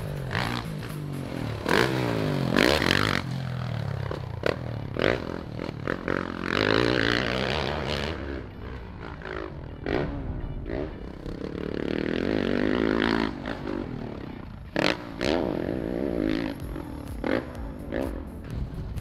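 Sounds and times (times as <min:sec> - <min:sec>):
motocross bike engine revving: 0:00.0 - 0:18.7.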